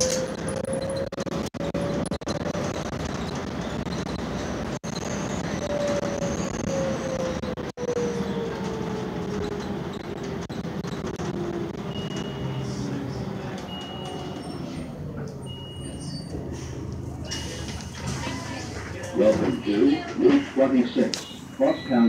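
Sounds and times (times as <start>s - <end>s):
bus drivetrain and road rumble: 0.0s - 22.0s.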